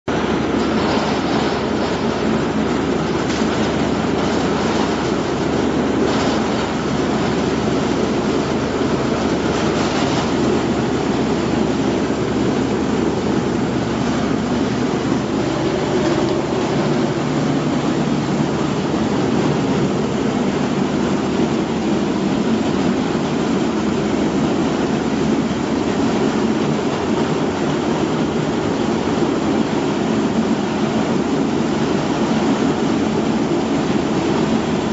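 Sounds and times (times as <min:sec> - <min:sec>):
peeling machine running: 0:00.1 - 0:34.9.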